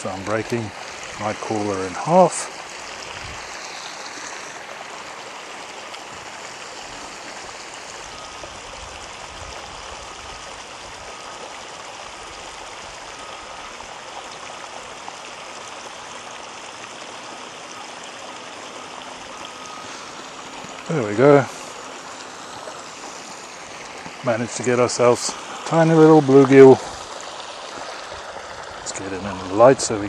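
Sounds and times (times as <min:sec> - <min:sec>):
water pouring into a pond: 0:00.0 - 0:30.0.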